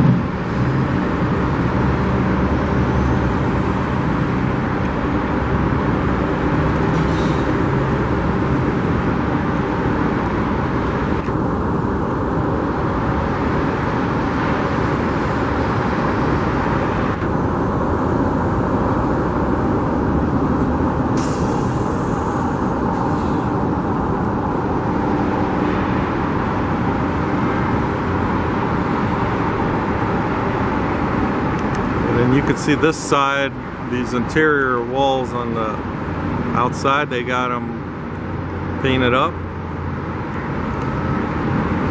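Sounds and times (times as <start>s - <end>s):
faint low engine drone: 0.0s - 41.9s
road traffic rumble: 0.0s - 41.9s.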